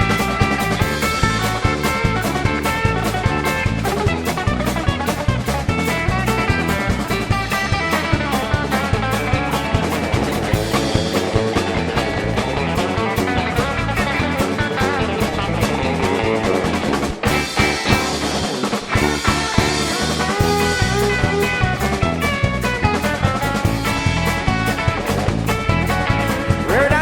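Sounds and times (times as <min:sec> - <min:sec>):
band playing instrumental: 0:00.0 - 0:27.0
drum kit: 0:00.0 - 0:27.0
guitar: 0:00.0 - 0:27.0.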